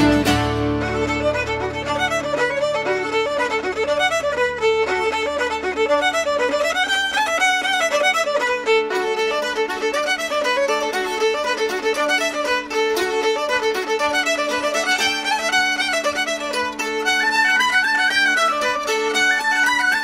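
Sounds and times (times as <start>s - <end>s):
quick fiddle tune: 0.0s - 20.0s.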